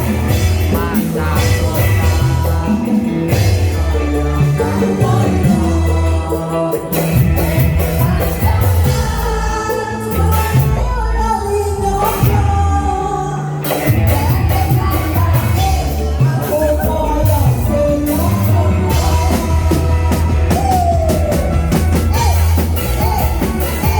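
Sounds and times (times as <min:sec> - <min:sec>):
drums and bass beat: 0:00.0 - 0:12.8, 0:13.6 - 0:23.9
vocalist singing: 0:00.0 - 0:23.9.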